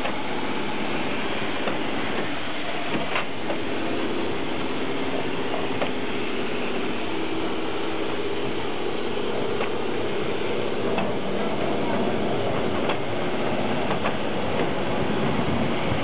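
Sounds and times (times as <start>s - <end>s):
steam locomotive rush and rattle: 0.0s - 16.0s.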